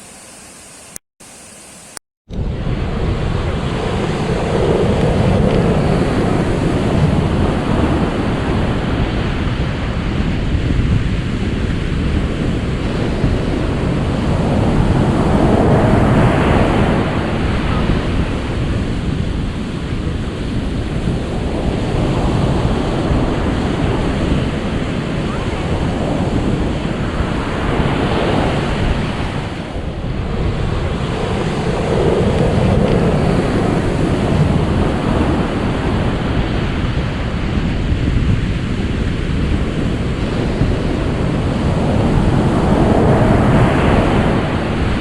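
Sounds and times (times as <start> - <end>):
waves washing ashore: 1.2 - 45.0.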